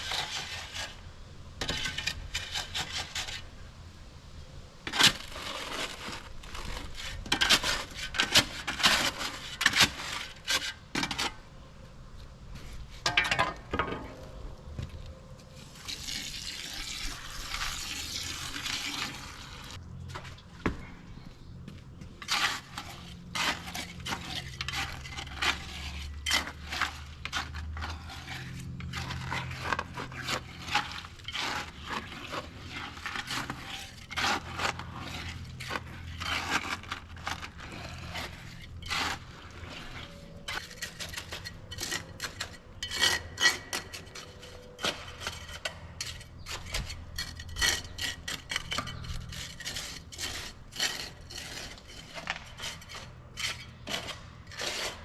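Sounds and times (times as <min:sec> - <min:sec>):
metal tool scraping gritty material: 0:00.0 - 0:03.6, 0:04.9 - 0:11.7, 0:12.5 - 0:14.3, 0:15.5 - 0:21.2, 0:22.2 - 0:55.0.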